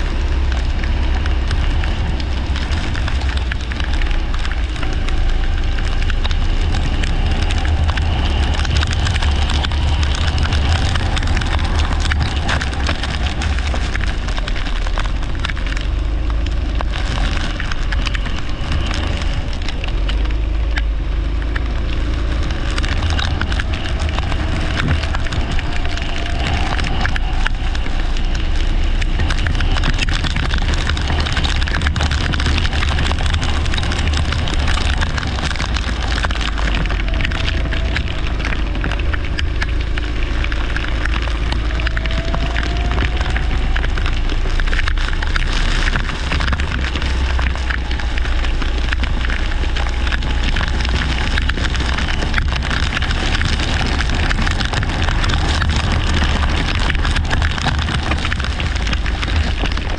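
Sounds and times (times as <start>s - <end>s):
water spray and rain crackle: 0.0s - 59.9s
wind rumble on microphone: 0.0s - 59.9s.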